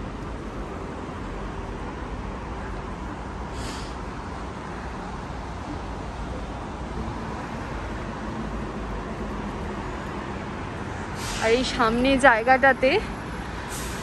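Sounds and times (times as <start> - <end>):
distant traffic rumble: 0.0 - 14.0.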